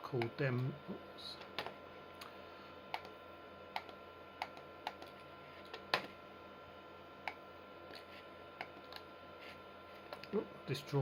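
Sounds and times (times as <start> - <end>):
faint computer hum: 0.0 - 11.0.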